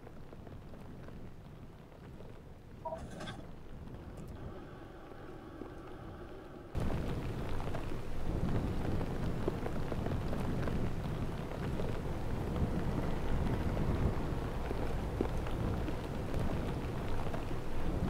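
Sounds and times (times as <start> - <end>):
faint steady hum: 0.0 - 18.0
rumbling wind noise with crackle: 0.0 - 18.0.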